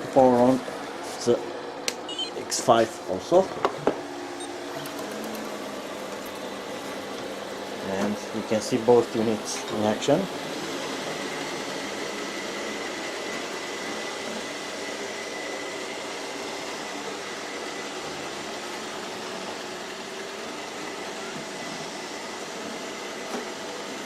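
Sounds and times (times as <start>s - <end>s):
robot vacuum cleaners whirring: 0.2s - 24.0s.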